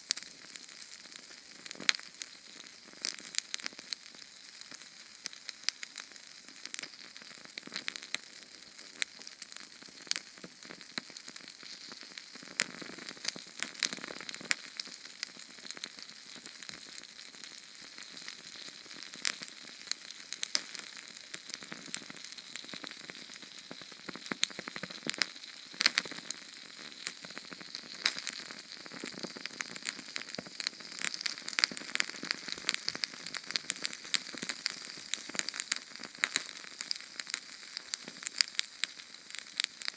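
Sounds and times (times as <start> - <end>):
flame hissing with crackles: 0.0 - 39.9.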